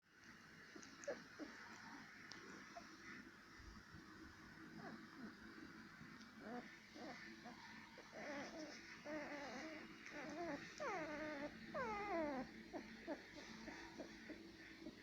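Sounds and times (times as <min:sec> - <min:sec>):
puppy whining: 0:00.6 - 0:03.8, 0:04.5 - 0:15.0
puppies whimpering and squealing: 0:00.7 - 0:03.3, 0:04.7 - 0:15.0.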